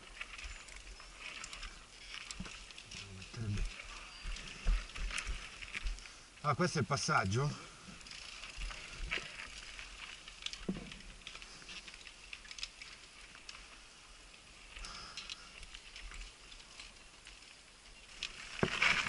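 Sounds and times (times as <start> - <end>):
clicks and rattles of stones and bike: 0.0 - 19.0.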